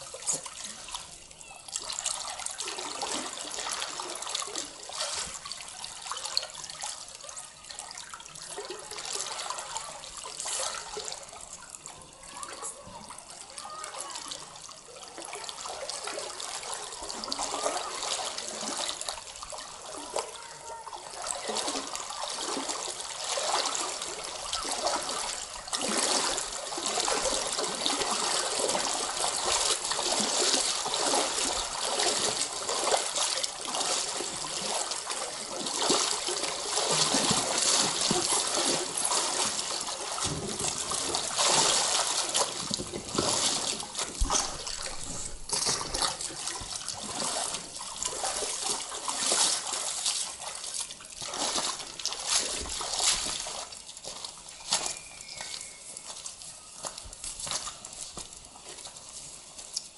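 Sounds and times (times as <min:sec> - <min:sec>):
water sloshing and splashing: 0:00.0 - 0:59.9.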